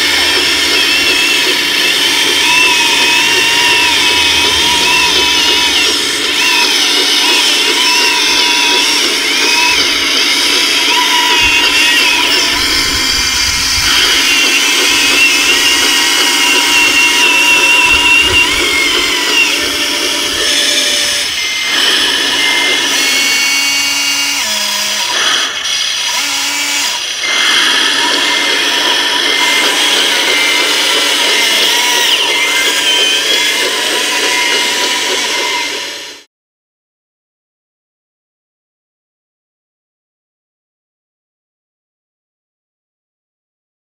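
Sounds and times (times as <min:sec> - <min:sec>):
electric motors whining: 0:00.0 - 0:36.3.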